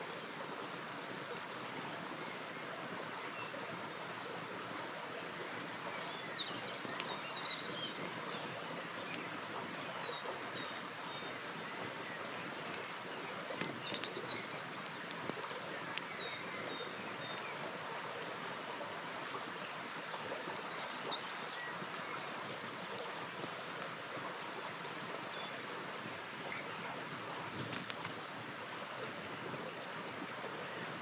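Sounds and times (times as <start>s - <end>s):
campfire crackles: 0.0s - 31.0s.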